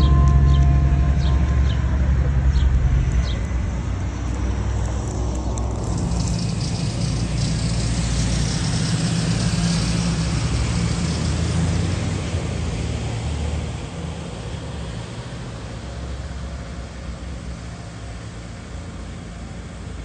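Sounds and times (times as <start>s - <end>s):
road noise hiss: 0.0s - 20.0s
vehicle engine rumbling: 0.0s - 20.0s.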